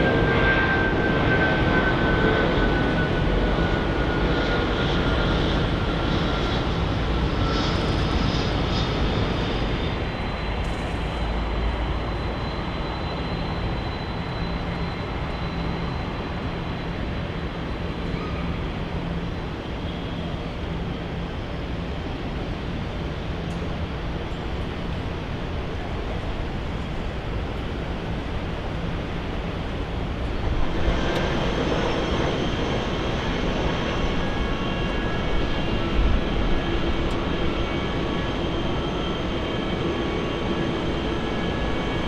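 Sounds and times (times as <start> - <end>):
jet engines passing by: 0.0 - 42.0.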